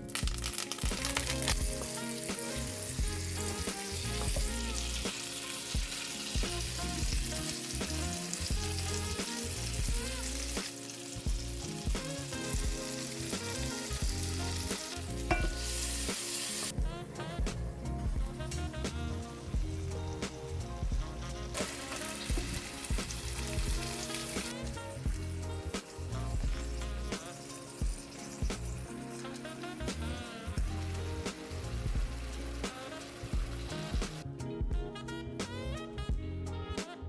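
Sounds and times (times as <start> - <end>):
food sizzling in a frying pan: 0.0 - 17.3, 18.2 - 34.2
background music: 0.0 - 37.0.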